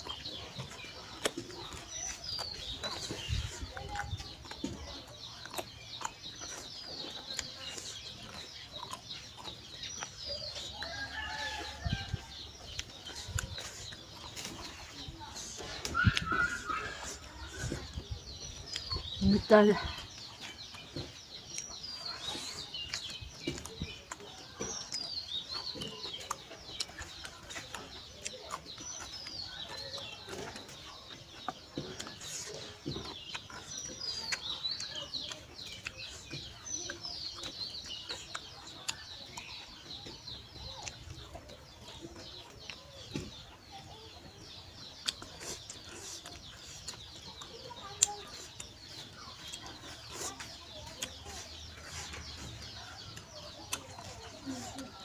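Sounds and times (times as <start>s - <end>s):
birds chirping: 0.0s - 55.0s
small clicks and smacks of eating: 0.0s - 55.0s.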